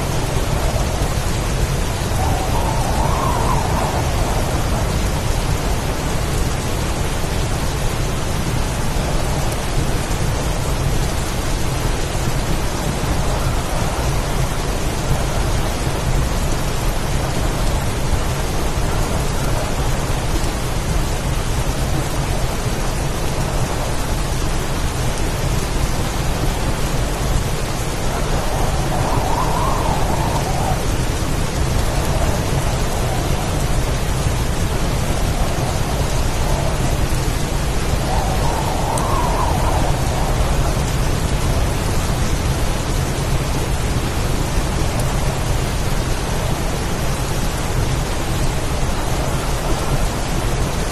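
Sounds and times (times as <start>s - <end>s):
continuous low rumble: 0.0s - 50.9s
heavy rain pouring: 0.0s - 50.9s.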